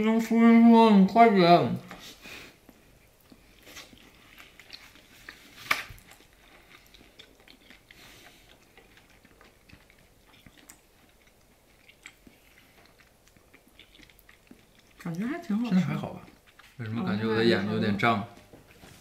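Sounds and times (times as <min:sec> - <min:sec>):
people chewing noodles: 0:02.0 - 0:18.0.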